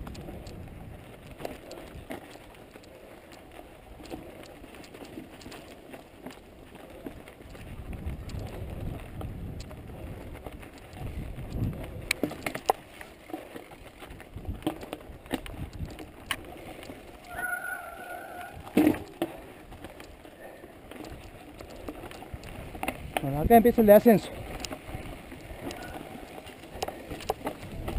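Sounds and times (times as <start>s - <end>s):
bike clicks and rattles: 0.0s - 27.9s
bike tyres rumbling on dirt: 0.0s - 27.9s.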